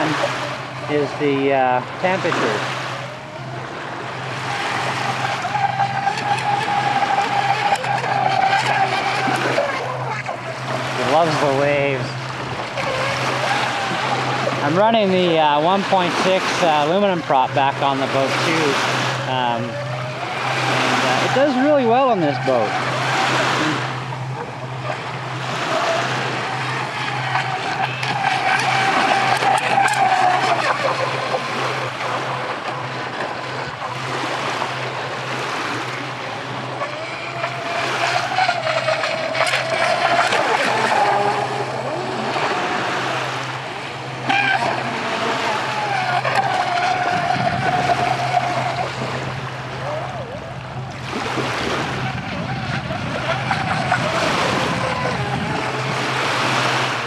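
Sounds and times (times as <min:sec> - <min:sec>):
electric boat motor whining: 0:00.0 - 0:57.0
wind and waves hiss: 0:00.0 - 0:57.0.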